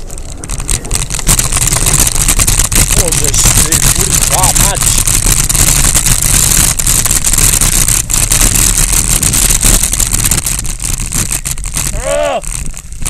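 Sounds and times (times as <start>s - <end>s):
bicycle tyres rumbling on gravel: 0.0s - 13.0s
bike clicks and knocks: 0.0s - 13.0s
wind buffeting on microphone: 0.0s - 13.0s.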